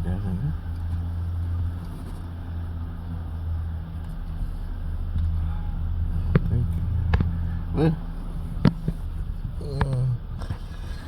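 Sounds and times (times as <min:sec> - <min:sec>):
car engine: 0:00.0 - 0:11.0
road hum: 0:00.0 - 0:11.0.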